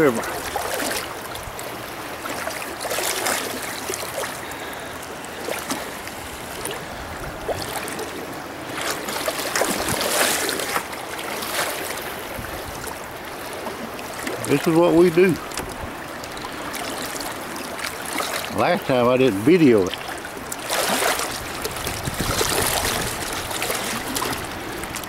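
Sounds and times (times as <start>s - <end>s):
river rapids rushing: 0.0s - 25.0s
water splashes: 0.0s - 25.0s.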